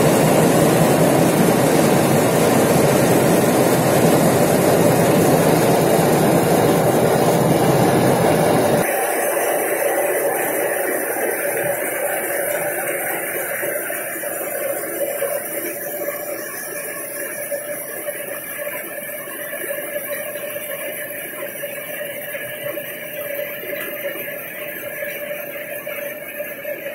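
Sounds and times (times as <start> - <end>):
conveyor belt whirring rumble: 0.0 - 26.9.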